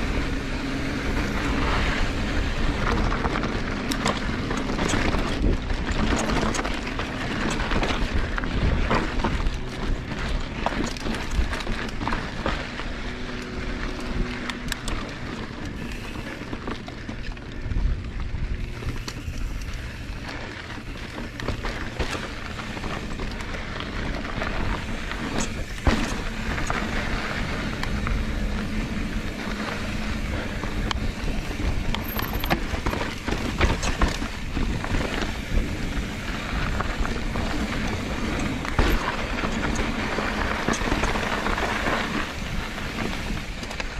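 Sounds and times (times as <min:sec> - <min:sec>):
bike knocking and rattling: 0:00.0 - 0:43.9
bike tyres crunching over rock: 0:00.0 - 0:43.9
steady rumble: 0:00.0 - 0:43.9.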